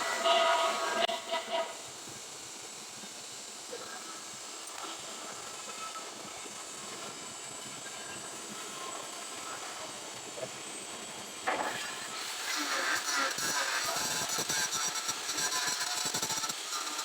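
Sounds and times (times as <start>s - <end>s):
welding arc crackling hiss: 0.0s - 17.0s.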